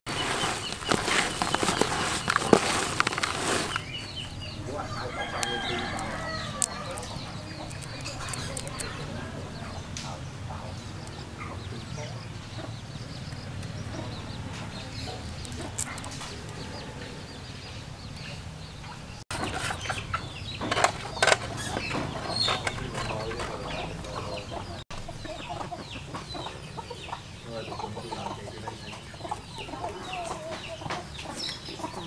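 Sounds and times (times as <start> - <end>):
chickens clucking: 0.1 - 32.0.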